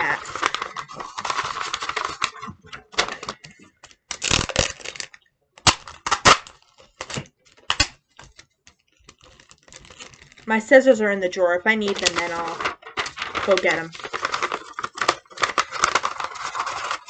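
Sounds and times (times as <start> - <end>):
paper crinkling: 0.0 - 10.6, 11.8 - 17.0.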